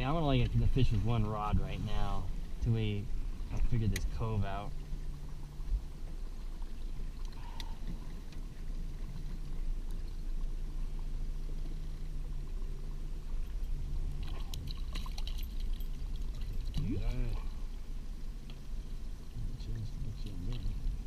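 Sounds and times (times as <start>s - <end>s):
boat motor humming: 0.0s - 21.0s
water splashing at hull: 0.0s - 21.0s.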